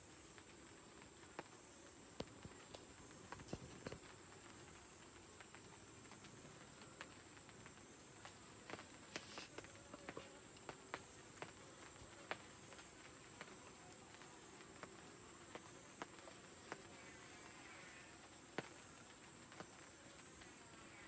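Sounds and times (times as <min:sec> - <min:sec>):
insects droning: 0:00.0 - 0:21.0
honeybees buzzing: 0:00.6 - 0:21.0.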